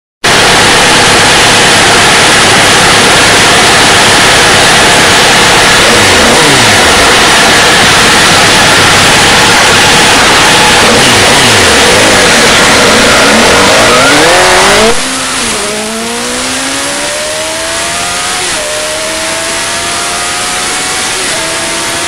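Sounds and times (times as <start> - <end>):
motorcycle engine at high revs: 0.2 - 22.0.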